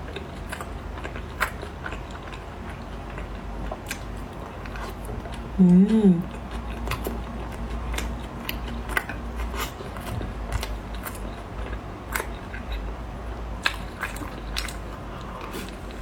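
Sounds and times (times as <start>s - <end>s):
person chewing salad: 0.0s - 16.0s.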